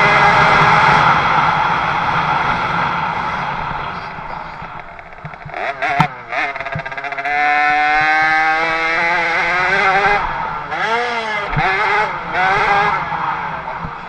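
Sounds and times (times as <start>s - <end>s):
motocross bike engine revving: 0.0s - 14.0s.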